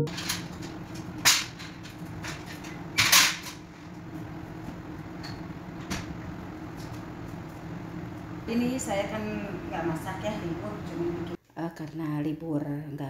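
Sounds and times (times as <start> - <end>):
low steady hum: 0.0 - 12.2.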